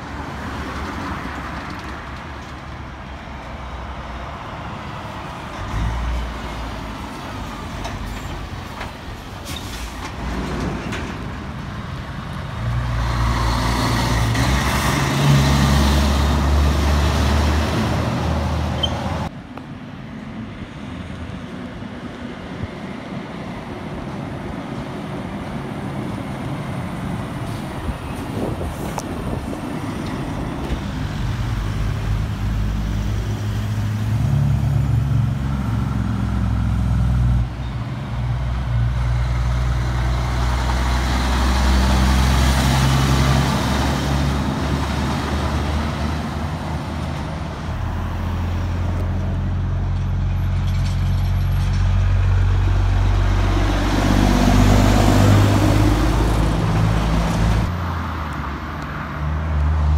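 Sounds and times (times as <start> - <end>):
diesel trucks driving past: 0.0 - 59.9
tyre and road noise: 0.0 - 59.9.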